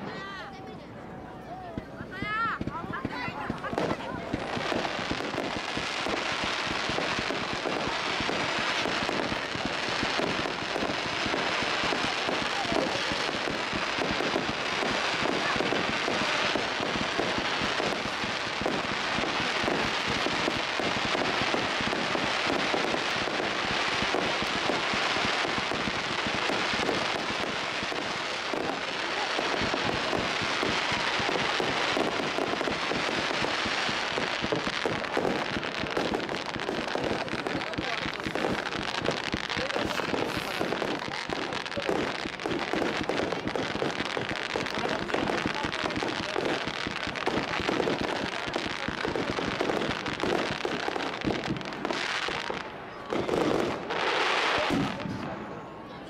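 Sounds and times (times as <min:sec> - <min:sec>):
crackling fireworks: 0:00.0 - 0:56.0.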